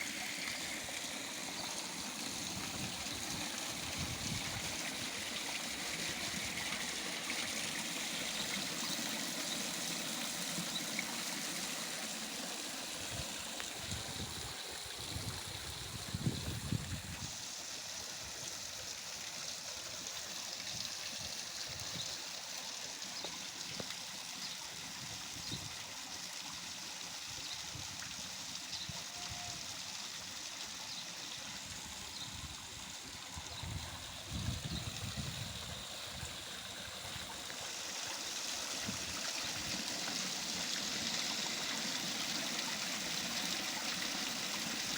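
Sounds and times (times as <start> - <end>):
waterfall splashing into pond: 0.0 - 44.9.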